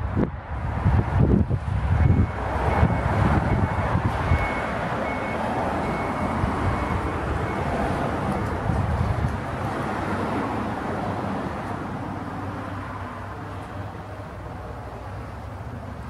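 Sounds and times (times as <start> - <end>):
traffic rumble on road: 0.0 - 16.0.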